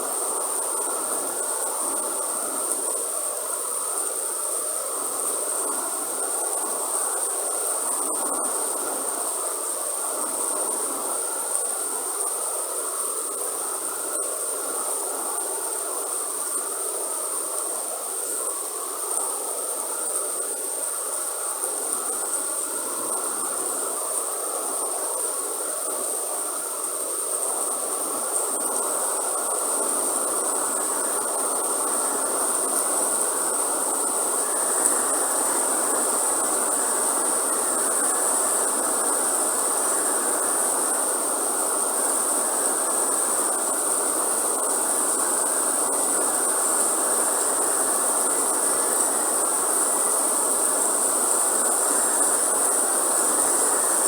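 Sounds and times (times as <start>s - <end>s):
high-pitched insect drone: 0.0s - 54.0s
steady rain falling: 0.0s - 54.0s.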